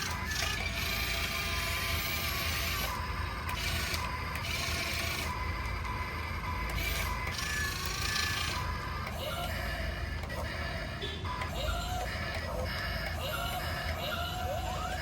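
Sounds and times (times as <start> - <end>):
small electric motors whirring: 0.0 - 15.0
thin motor whine: 0.0 - 15.0.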